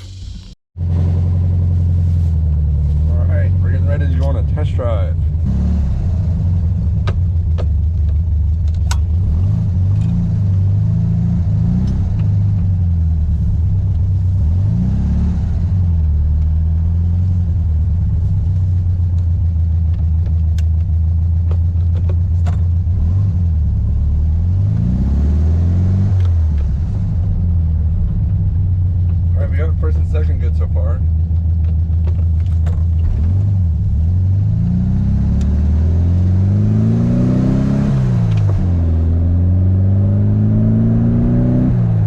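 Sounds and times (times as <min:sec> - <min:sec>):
car engine accelerating through gears: 0:00.1 - 0:42.0.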